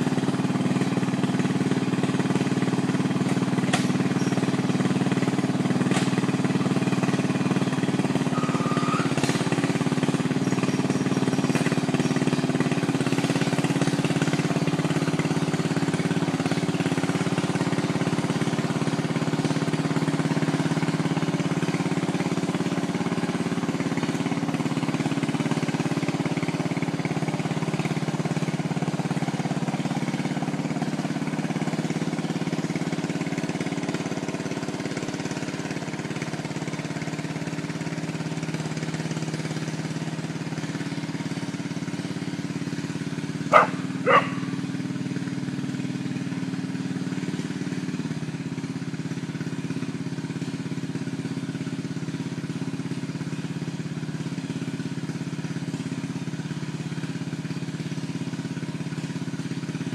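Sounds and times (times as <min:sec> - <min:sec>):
small engine running under load: 0:00.0 - 0:59.9.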